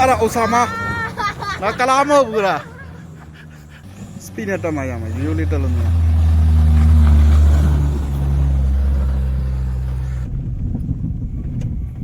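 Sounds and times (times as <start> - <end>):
off-road vehicle engine under load: 0.0 - 12.0
rough engine rumble: 0.0 - 12.0.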